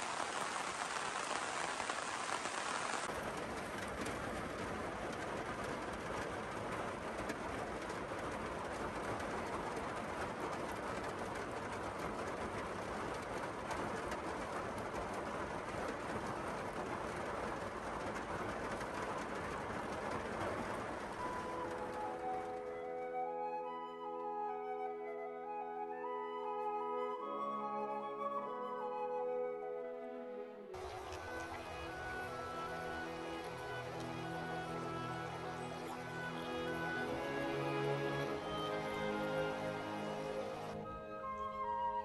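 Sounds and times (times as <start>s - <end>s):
heavy rain falling: 0.0s - 23.6s, 30.8s - 41.9s.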